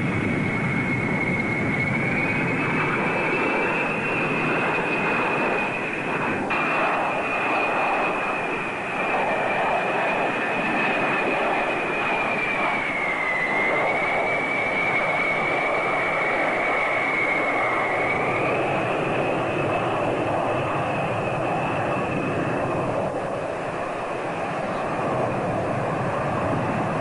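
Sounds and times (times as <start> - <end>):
aircraft engine whine: 0.0 - 27.0.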